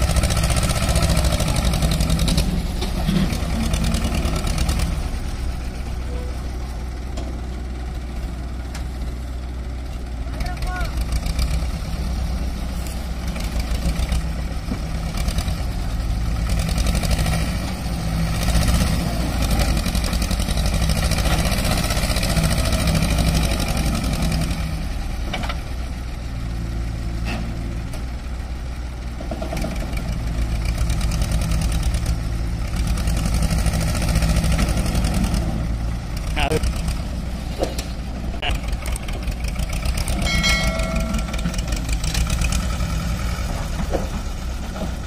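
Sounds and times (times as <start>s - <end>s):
diesel engine under load: 0.0s - 45.0s.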